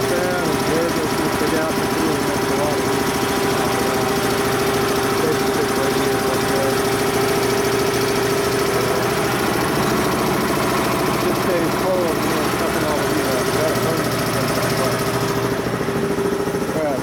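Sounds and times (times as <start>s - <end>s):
air compressor pumping: 0.0s - 17.0s.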